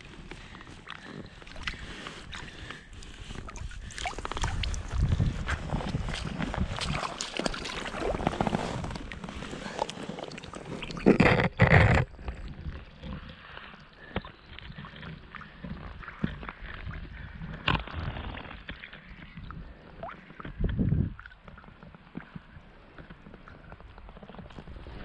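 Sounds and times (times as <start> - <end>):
water sloshing and gurgling: 0.0 - 25.0.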